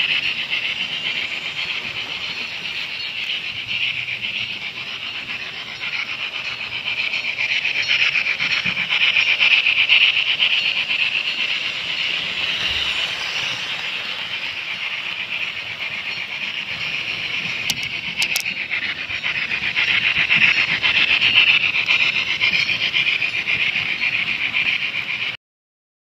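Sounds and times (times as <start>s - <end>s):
rhythmic locomotive hiss: 0.0s - 25.4s.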